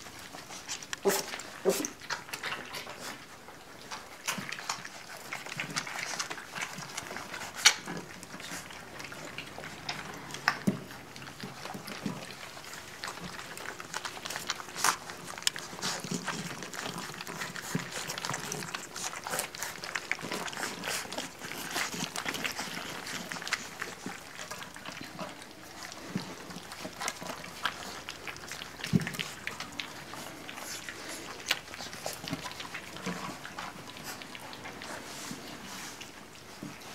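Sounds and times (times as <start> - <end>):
puppies lapping and chewing food: 0.0 - 36.9.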